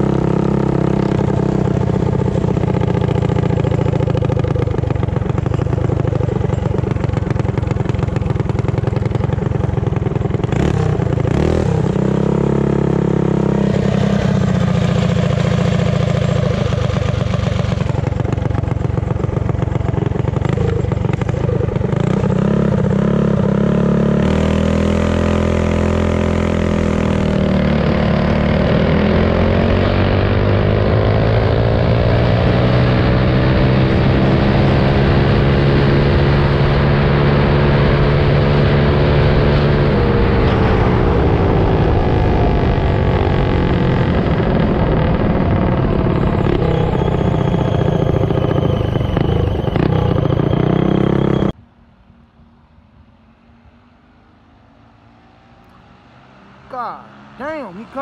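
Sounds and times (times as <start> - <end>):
mini bike engine revving: 0.0 - 51.6, 56.6 - 58.0.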